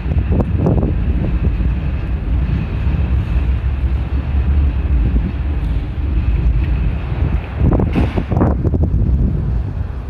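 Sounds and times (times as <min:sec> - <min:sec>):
road traffic: 0:00.0 - 0:10.0
wind buffeting microphone: 0:00.0 - 0:10.0.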